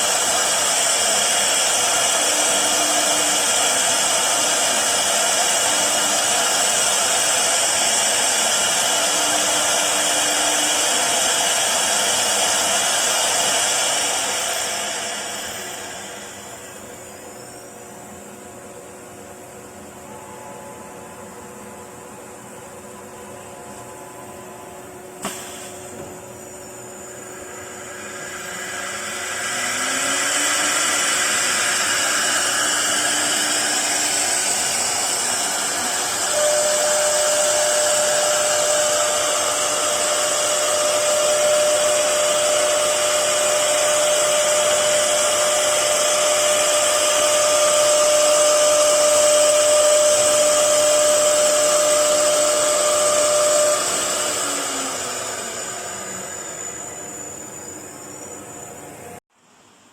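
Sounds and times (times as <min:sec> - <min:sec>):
cnc router whirring: 0:00.0 - 0:59.2.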